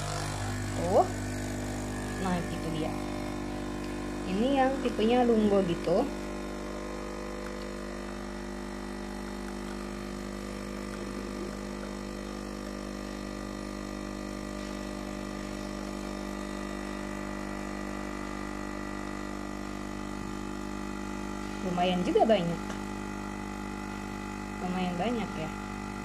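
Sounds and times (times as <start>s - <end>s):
capsule coffee machine pump buzzing: 0.0s - 26.0s.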